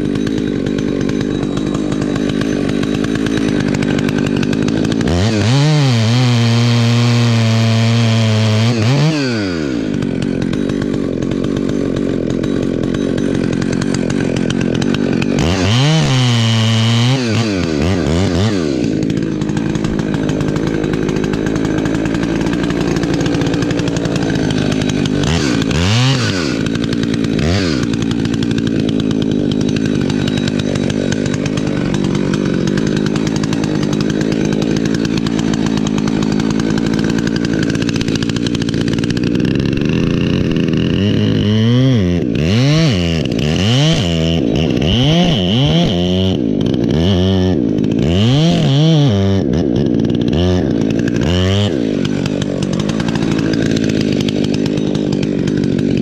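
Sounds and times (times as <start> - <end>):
chainsaw cutting tree trunk: 0.0 - 56.0.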